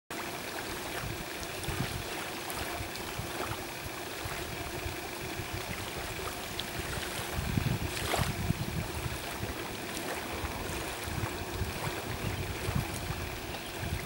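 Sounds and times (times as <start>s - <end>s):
low unsteady rumble: 0.1s - 14.0s.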